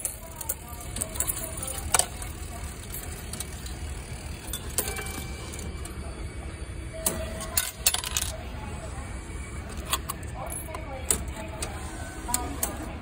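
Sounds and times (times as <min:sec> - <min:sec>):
coins clinking into machine: 0:00.0 - 0:06.1, 0:07.0 - 0:08.5, 0:09.6 - 0:12.9.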